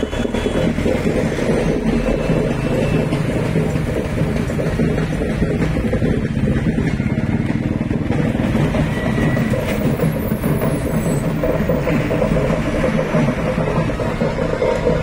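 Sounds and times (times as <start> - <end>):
bus and lorry engines rumbling: 0.0 - 15.0.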